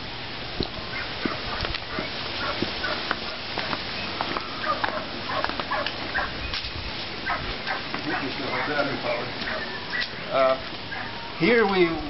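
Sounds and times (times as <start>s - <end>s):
footsteps on concrete: 0.6s - 11.0s
hens clucking: 0.9s - 6.4s, 7.2s - 11.6s.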